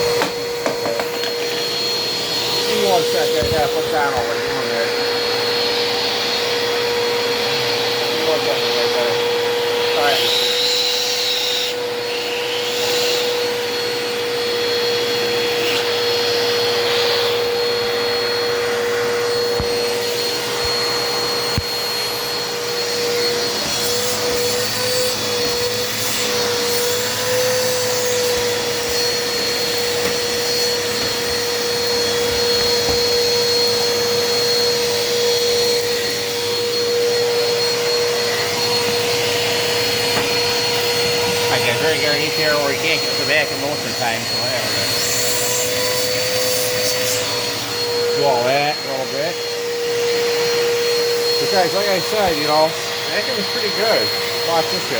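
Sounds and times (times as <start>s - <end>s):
upright vacuum cleaner running: 0.0s - 54.9s.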